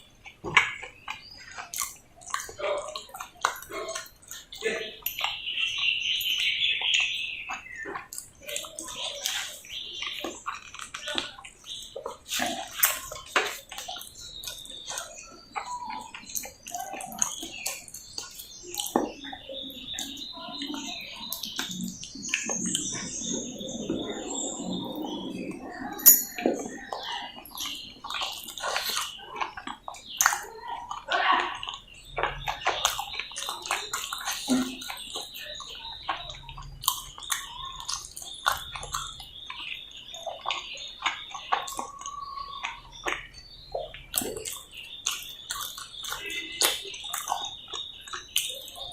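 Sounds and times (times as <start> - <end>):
wet chewing and mouth sounds: 0.0 - 48.9.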